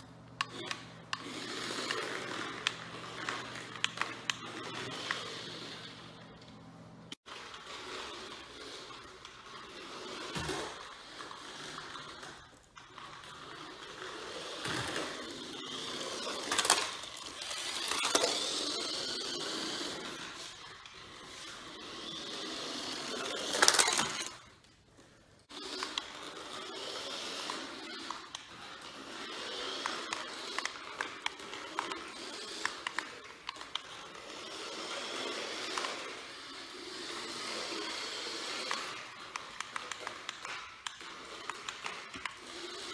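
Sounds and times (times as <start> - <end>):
toy car motor whirring: 0.0 - 6.5, 7.1 - 42.9.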